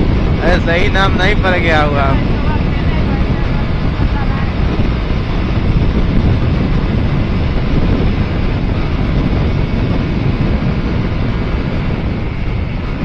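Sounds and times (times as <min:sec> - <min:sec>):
motorcycle engine and tyre noise: 0:00.0 - 0:13.0
wind buffeting microphone: 0:00.0 - 0:13.0.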